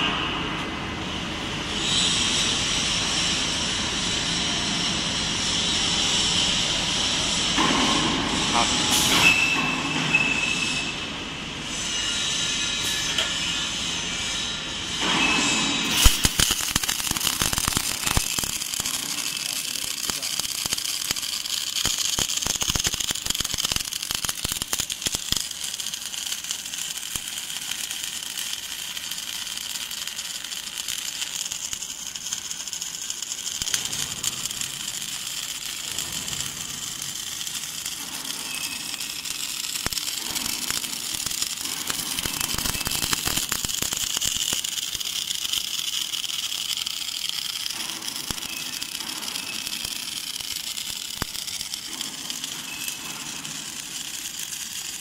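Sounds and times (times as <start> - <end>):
welding arc crackling hiss: 0.0 - 55.0.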